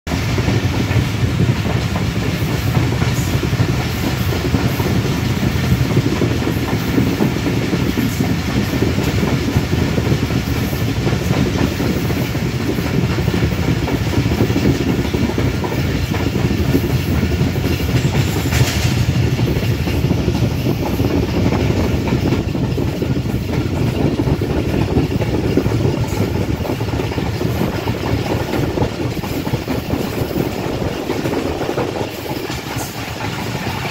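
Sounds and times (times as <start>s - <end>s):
passenger train rumbling: 0.1s - 33.9s
wheels clattering on rails: 0.1s - 33.9s.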